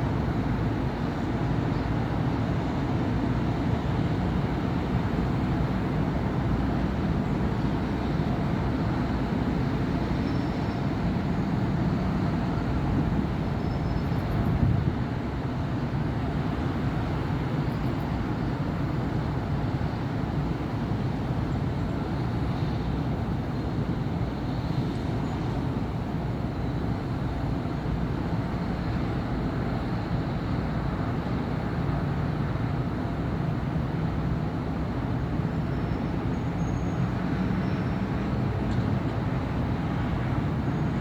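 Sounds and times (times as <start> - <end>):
city street traffic rumble: 0.0 - 41.0.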